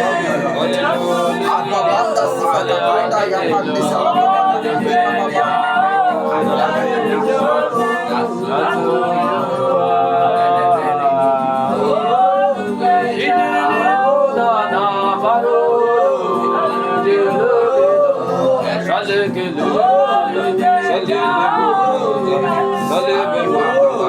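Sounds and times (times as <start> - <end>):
person singing wordlessly: 0.0 - 24.0.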